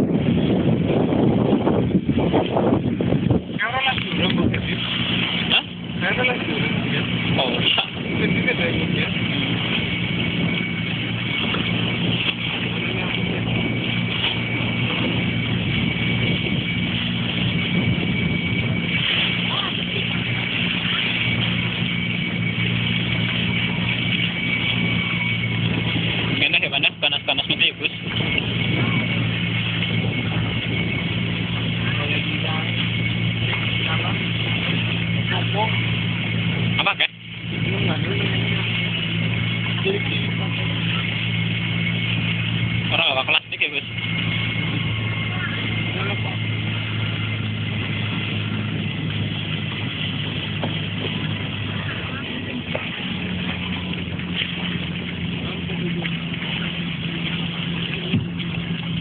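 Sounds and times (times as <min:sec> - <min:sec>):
boat engine droning: 0:00.0 - 0:59.0
wind and water noise: 0:00.0 - 0:59.0.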